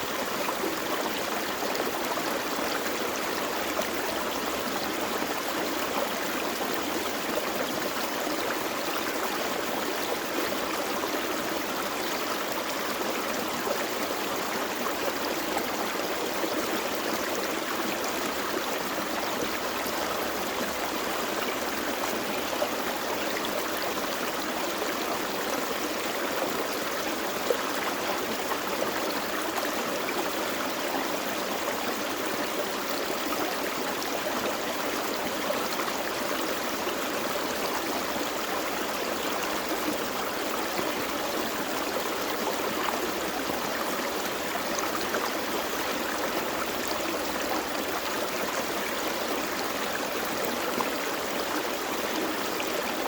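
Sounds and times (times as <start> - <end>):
creek flowing over rocks: 0.0 - 53.0.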